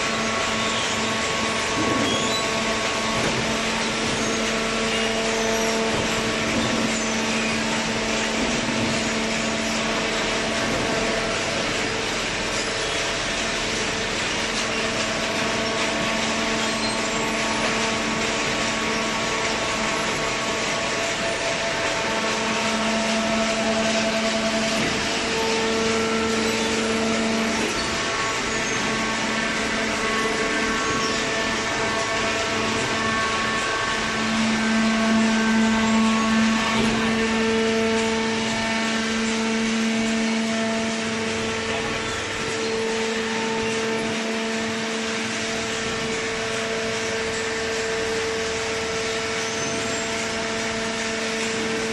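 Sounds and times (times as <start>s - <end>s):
hydraulic baling press running: 0.0s - 51.9s.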